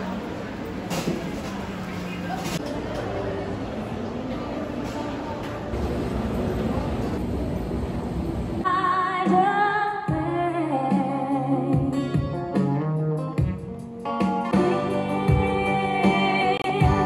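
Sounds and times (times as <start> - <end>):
indoor crowd noise: 0.0 - 17.0.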